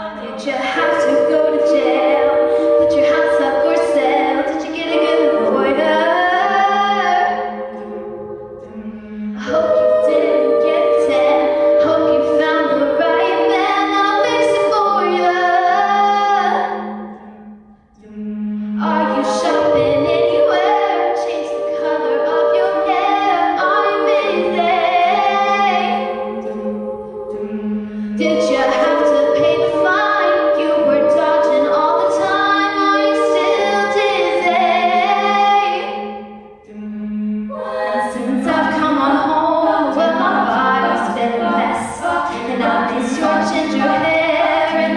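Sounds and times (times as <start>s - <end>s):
vocal ensemble singing in harmony: 0.0s - 44.9s.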